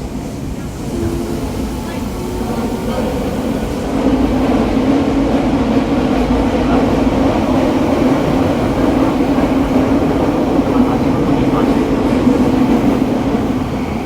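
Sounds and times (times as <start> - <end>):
subway car wheels and motors rumbling: 0.0 - 14.0.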